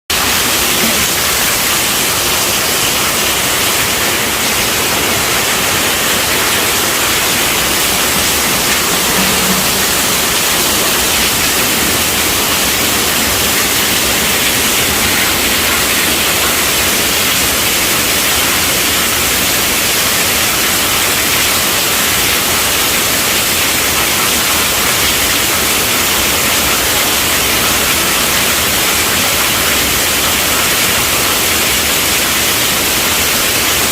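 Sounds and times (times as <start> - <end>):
heavy rain on a tent roof: 0.1 - 33.9.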